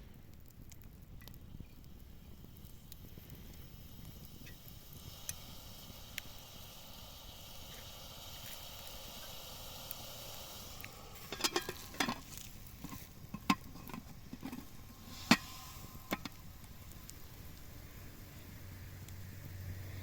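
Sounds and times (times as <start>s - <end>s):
food cooking hiss: 0.0s - 20.0s.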